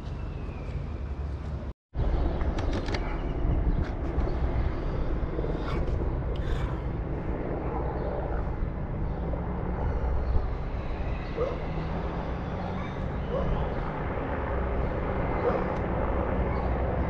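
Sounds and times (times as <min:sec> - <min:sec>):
distant aircraft rumble: 0:00.0 - 0:17.0.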